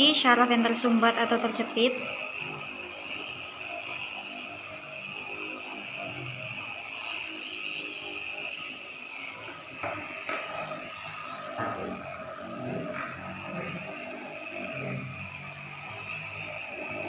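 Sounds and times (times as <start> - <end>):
massager vibrating whir: 0.0 - 17.0.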